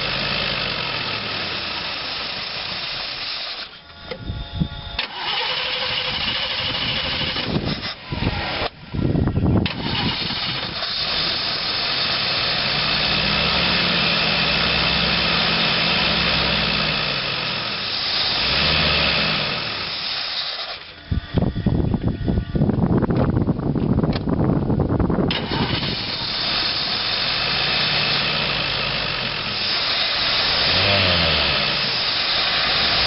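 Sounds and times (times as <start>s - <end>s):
starter motor cranking: 0.0s - 8.7s, 9.5s - 21.7s, 25.3s - 33.0s
engine running: 0.0s - 33.0s.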